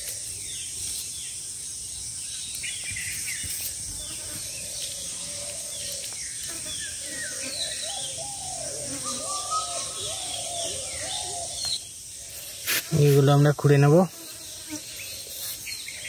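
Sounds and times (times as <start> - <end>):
birds chirping: 0.0 - 16.0
high-pitched insect drone: 0.0 - 16.0.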